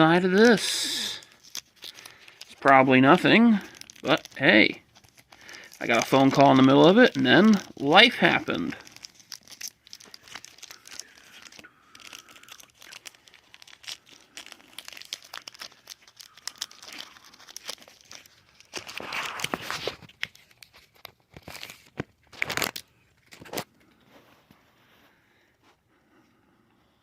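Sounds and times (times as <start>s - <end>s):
foil wrapper ripping: 0.0s - 23.7s
foil wrapper crinkling: 0.0s - 24.0s.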